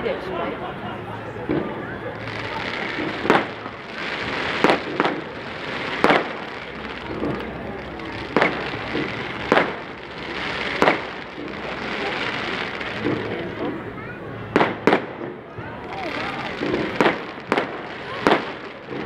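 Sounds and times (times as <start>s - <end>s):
background haze noise: 0.0s - 19.0s
fireworks bursting: 1.4s - 19.0s.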